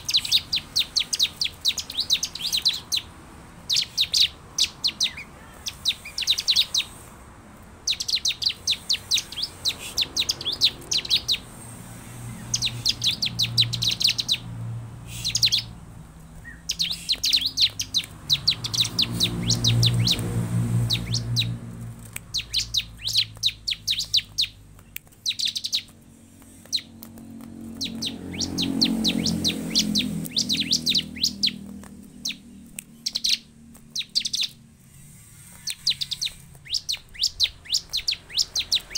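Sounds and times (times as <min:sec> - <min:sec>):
bird sharp high chirps: 0:00.0 - 0:07.1, 0:07.8 - 0:11.6, 0:12.2 - 0:38.9.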